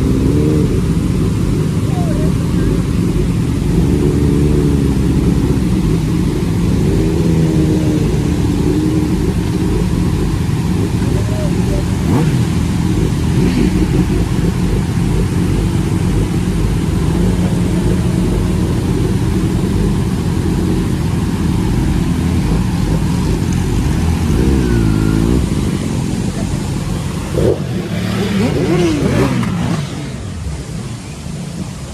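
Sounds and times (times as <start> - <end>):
motorcycle engine running loud: 0.0 - 31.9.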